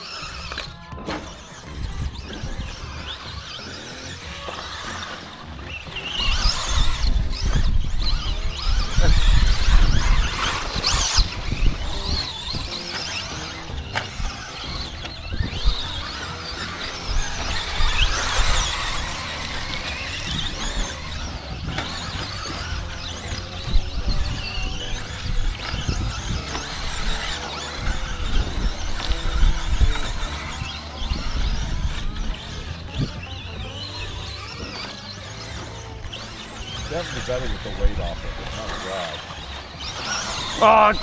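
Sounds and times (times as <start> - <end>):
rc truck electric motors whining: 0.0 - 41.0.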